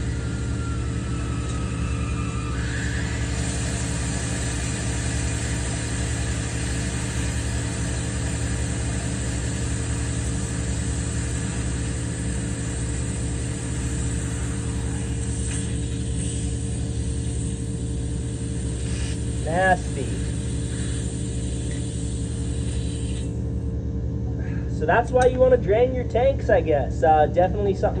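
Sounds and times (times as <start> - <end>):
compressed air hissing: 0.0 - 23.5
pickup engine idling: 0.0 - 28.0.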